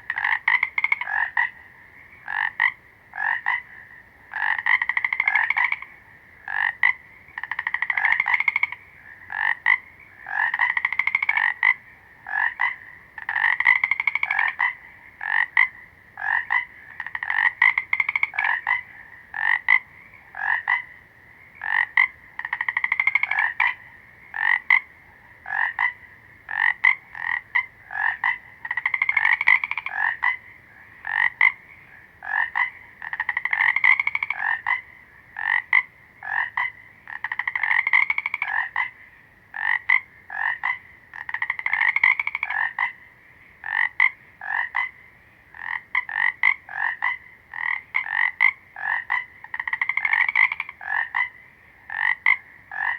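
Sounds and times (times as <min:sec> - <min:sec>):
frog single croaks: 0:00.0 - 0:52.9
frogs trilling: 0:00.0 - 0:52.9.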